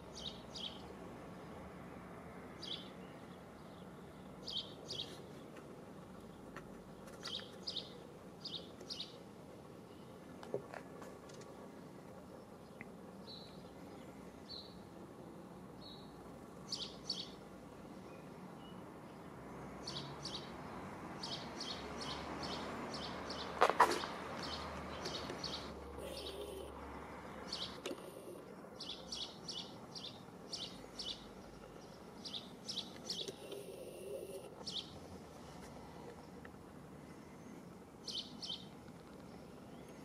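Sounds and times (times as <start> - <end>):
small birds chirping: 0.0 - 1.6, 2.5 - 15.0, 15.6 - 40.0.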